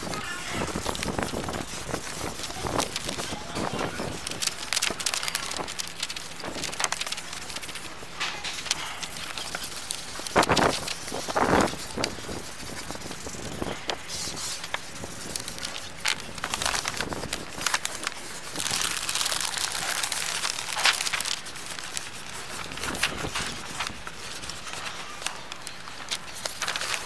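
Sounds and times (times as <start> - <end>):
paper rustling and crinkling: 0.0 - 27.0.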